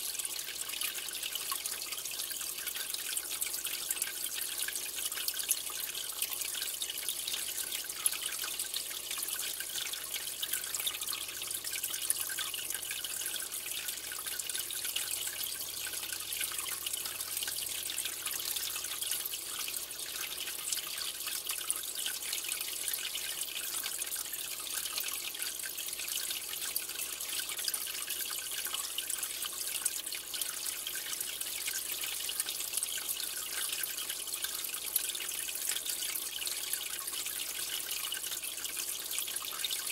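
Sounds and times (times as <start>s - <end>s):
aquarium water trickling and dripping: 0.0s - 39.9s.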